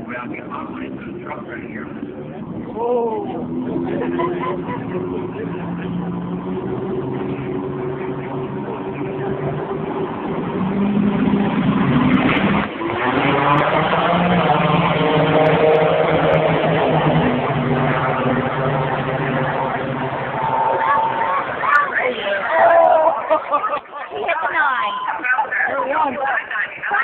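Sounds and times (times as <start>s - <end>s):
drag racing engine revving: 0.0s - 22.4s.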